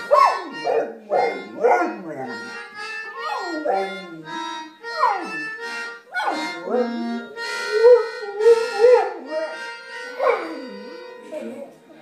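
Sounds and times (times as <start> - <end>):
free-reed instrument notes: 0.0 - 12.0.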